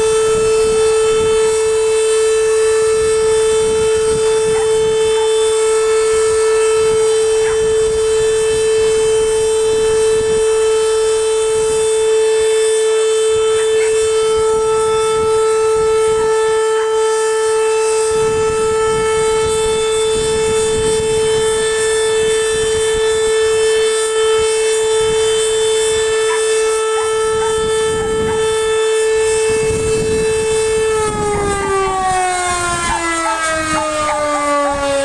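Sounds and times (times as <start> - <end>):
siren winding down: 0.0 - 35.0.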